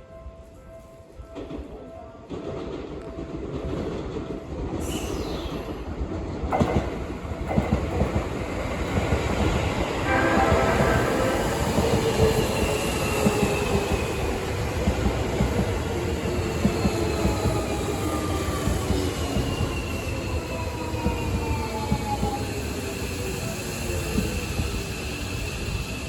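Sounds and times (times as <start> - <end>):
train running noise: 0.7 - 26.0.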